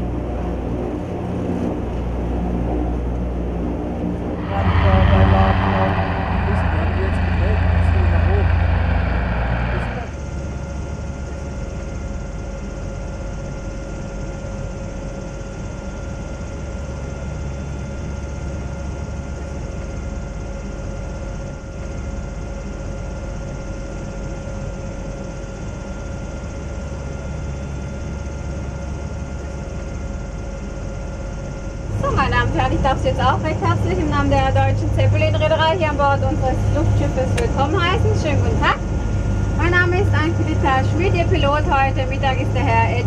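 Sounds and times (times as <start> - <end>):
airship engines and propellers: 0.0 - 43.0
constant whining tone: 0.0 - 43.0.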